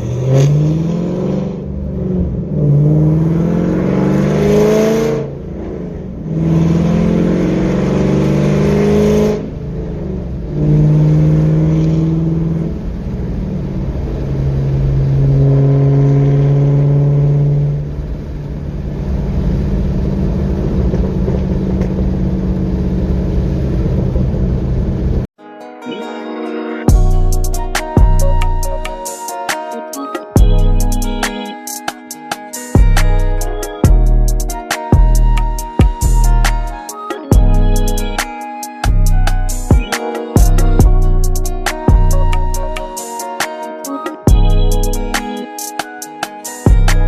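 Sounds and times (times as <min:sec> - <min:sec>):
car engine accelerating: 0:00.0 - 0:25.3, 0:26.9 - 0:29.1, 0:32.8 - 0:43.0.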